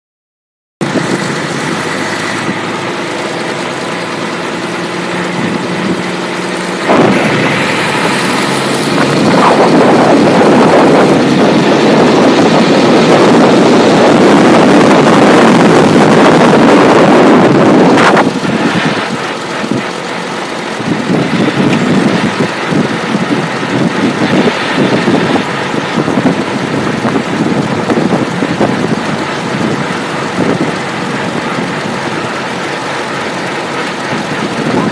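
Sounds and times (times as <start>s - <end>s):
paramotor engine: 0.8s - 34.9s.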